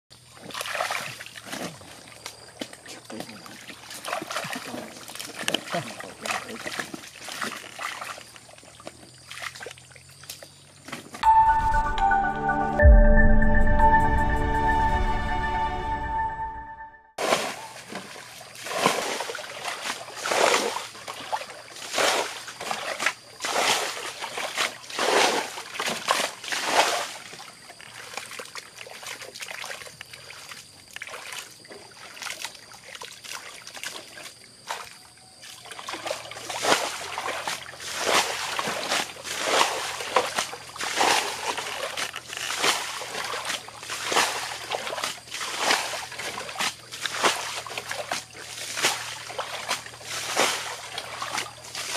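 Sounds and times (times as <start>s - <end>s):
water trickling over mud: 0.2s - 11.2s, 17.2s - 51.9s
bucket splashing water: 0.4s - 9.9s, 17.2s - 34.9s, 35.5s - 51.9s.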